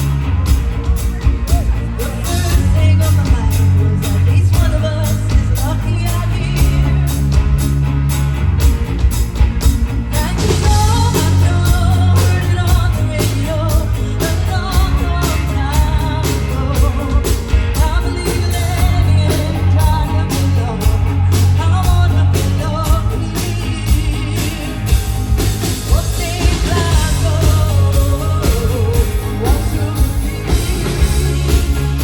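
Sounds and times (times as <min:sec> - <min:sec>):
rock band playing: 0:00.0 - 0:32.0
lead vocal singing: 0:01.1 - 0:07.5, 0:10.1 - 0:32.0.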